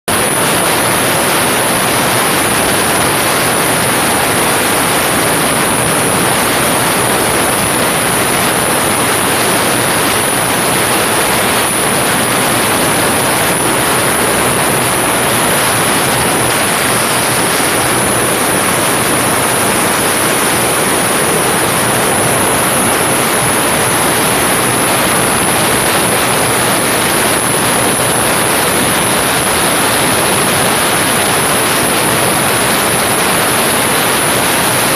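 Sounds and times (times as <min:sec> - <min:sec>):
high-pitched whine: 0:00.1 - 0:34.9
rushing water: 0:00.1 - 0:34.9
wind noise: 0:00.1 - 0:34.9.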